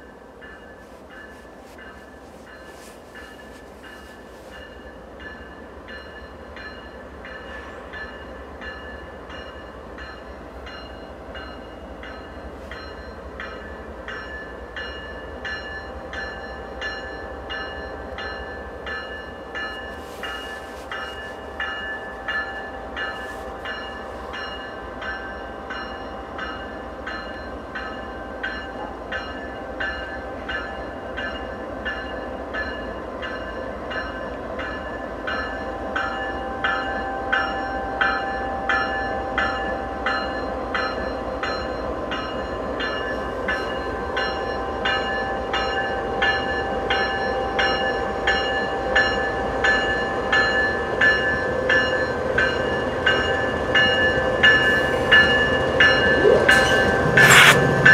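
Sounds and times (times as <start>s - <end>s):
diesel locomotive engines droning: 0.0s - 57.9s.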